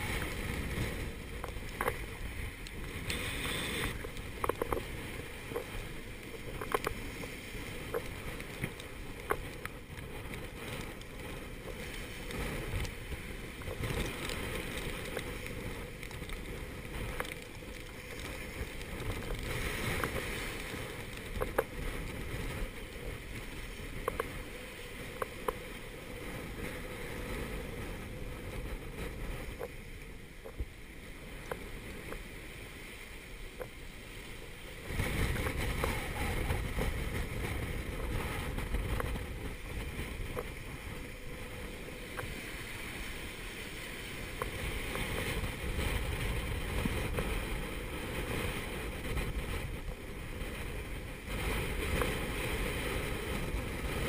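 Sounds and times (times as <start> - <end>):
breaking waves: 0.0 - 54.0
wind buffeting microphone: 0.0 - 54.0.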